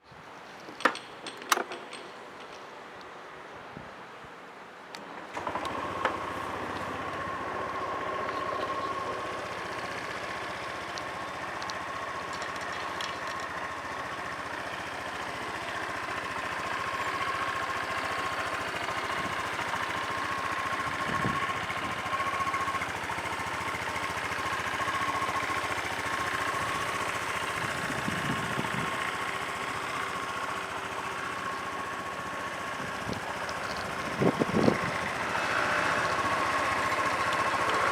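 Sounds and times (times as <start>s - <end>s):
scooter engine starting and idling: 5.0s - 37.9s.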